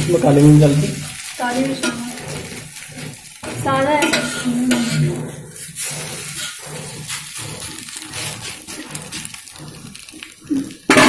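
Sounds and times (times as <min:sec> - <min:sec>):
metal spoon scraping pan: 0:00.0 - 0:11.0
omelette sizzling on iron pan: 0:00.0 - 0:11.0.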